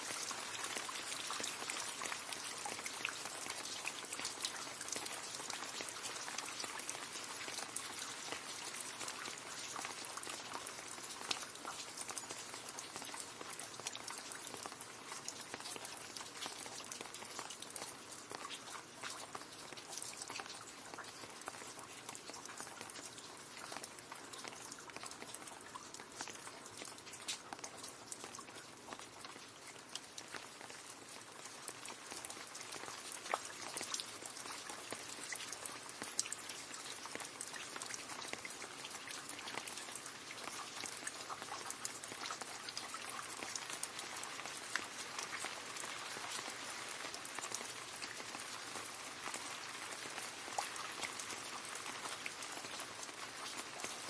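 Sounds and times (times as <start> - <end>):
rain splashing into a puddle: 0.0 - 54.0.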